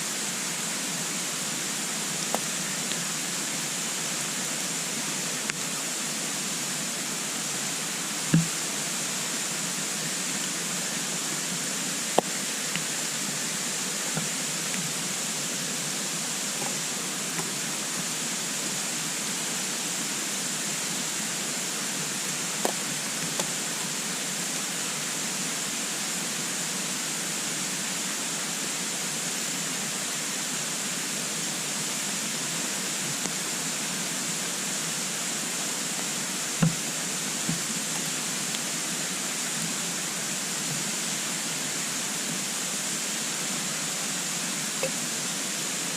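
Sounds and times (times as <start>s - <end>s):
wood fire hissing: 0.0s - 45.9s.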